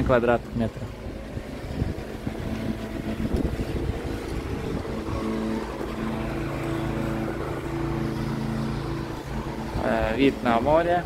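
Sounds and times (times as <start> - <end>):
steady motor hum: 0.0 - 11.0
wind rumbling on microphone: 0.0 - 11.0.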